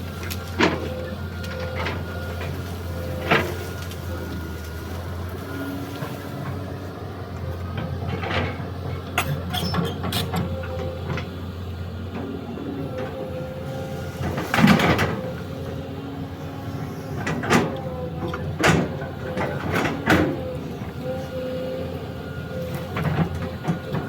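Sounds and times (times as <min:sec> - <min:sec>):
excavator engine with hydraulic whine: 0:00.0 - 0:24.0.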